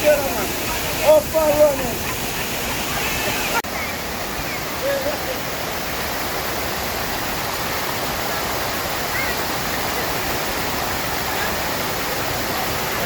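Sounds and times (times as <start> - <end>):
rushing river water: 0.0 - 13.0.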